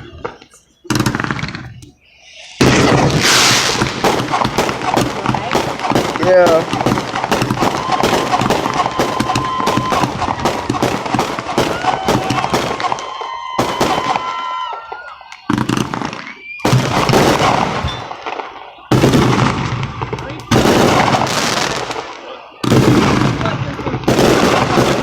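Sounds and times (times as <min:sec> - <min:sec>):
fireworks crackling bangs: 0:00.0 - 0:25.0
fireworks whistling: 0:00.0 - 0:25.0.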